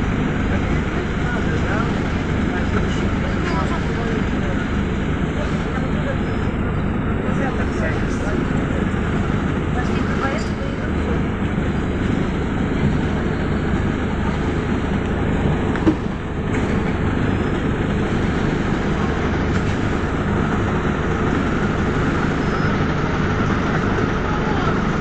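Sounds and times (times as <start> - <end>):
bus diesel engine idling: 0.0 - 25.0.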